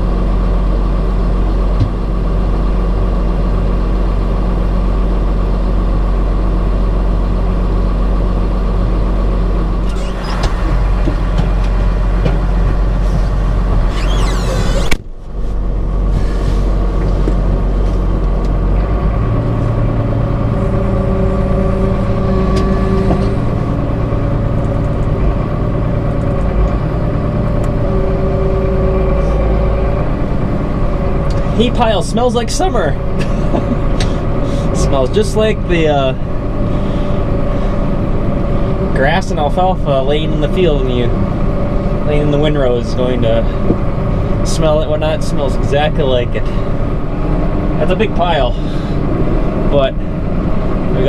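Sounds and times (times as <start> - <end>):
diesel grinder machinery drone: 0.0 - 51.0.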